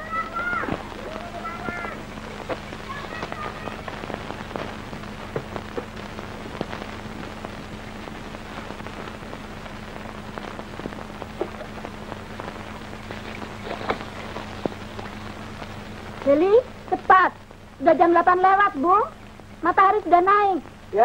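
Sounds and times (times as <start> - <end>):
constant low hum: 0.0 - 21.0
crackling haze: 0.0 - 21.0
sharp pops: 0.6 - 17.8.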